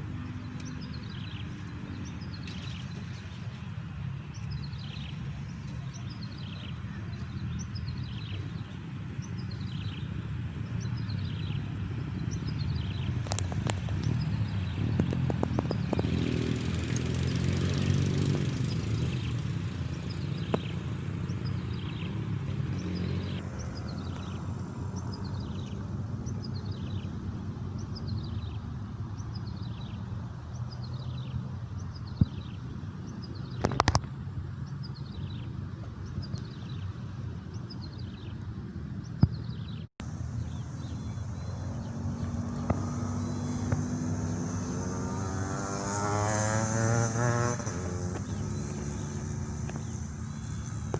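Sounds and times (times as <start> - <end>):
vehicle engine rumbling past: 0.0 - 50.9
bird chirping: 0.1 - 34.0, 39.0 - 50.9.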